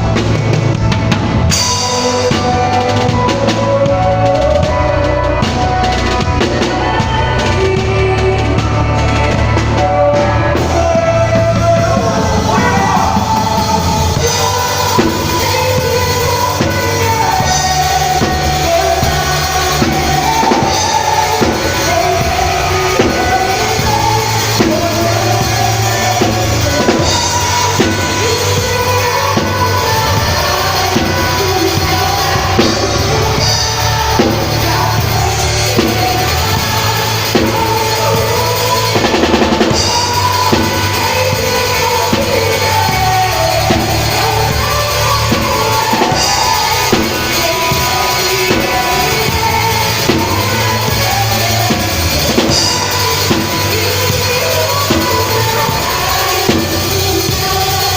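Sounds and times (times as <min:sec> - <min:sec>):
band playing worship song: 0:00.0 - 0:57.9
drum kit beat: 0:00.0 - 0:57.9
melodic lead line: 0:00.0 - 0:57.9.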